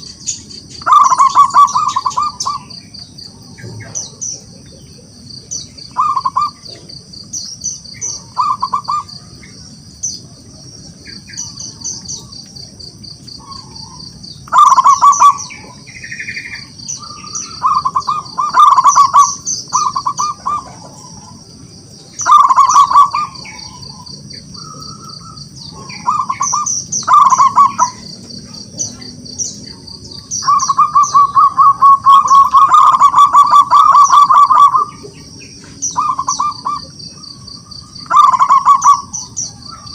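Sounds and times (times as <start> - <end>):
dove cooing: 0.0 - 39.9
steady high-pitched chirping: 0.0 - 39.9.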